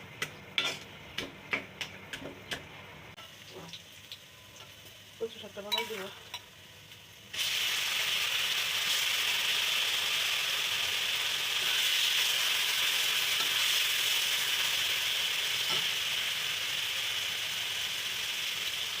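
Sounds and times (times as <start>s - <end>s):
hot oil sizzling in a pan: 3.2s - 19.0s.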